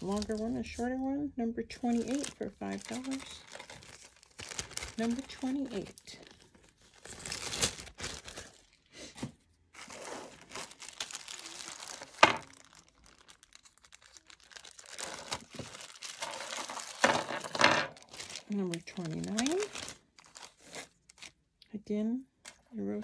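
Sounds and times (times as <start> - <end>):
plastic bag crinkling: 0.0 - 0.8, 1.8 - 8.9, 9.7 - 21.4.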